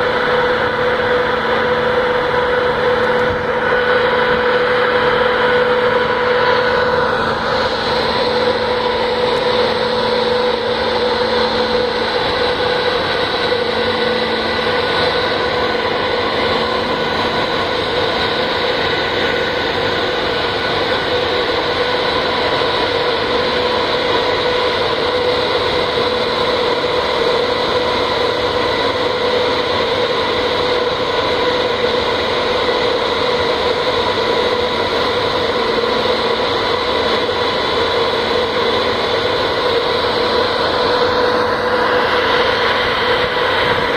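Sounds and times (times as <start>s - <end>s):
ship machinery drone: 0.0s - 43.9s.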